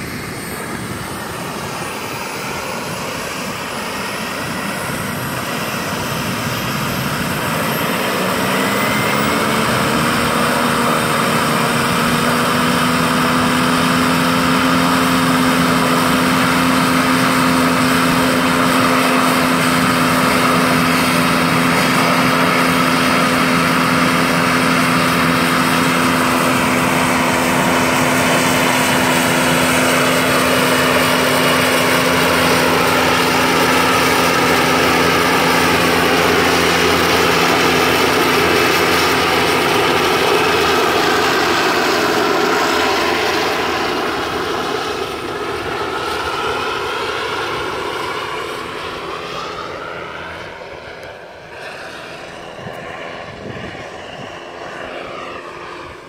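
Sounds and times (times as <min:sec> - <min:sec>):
helicopter rotor hum: 0:00.0 - 0:56.0
model turbine whining: 0:00.0 - 0:56.0.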